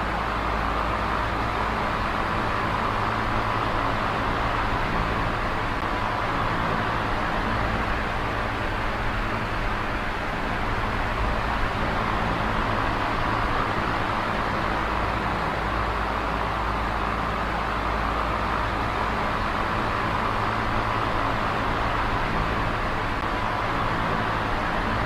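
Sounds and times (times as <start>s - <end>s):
electric fan running: 0.0s - 25.0s.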